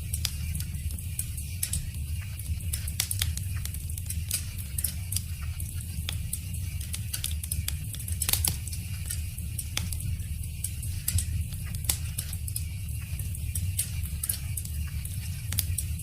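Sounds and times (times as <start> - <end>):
fire pops and snaps: 0.0 - 16.0
steady low rumble: 0.0 - 16.0
wood fire crackling: 0.0 - 16.0.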